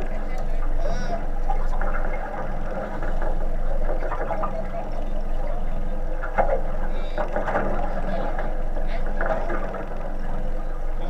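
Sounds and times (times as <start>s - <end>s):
boat engine running: 0.0s - 11.0s
water noise: 0.0s - 11.0s.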